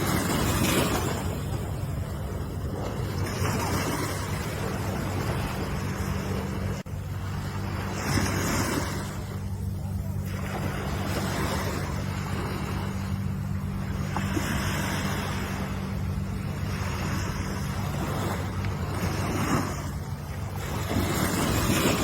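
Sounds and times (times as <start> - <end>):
low hum: 0.0 - 22.0
ocean waves washing in: 0.0 - 22.0.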